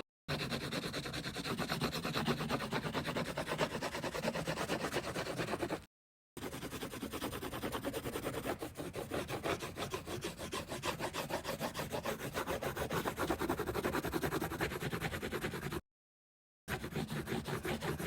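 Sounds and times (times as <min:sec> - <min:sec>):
pencil rubbing on paper: 0:00.3 - 0:15.8, 0:16.7 - 0:18.0.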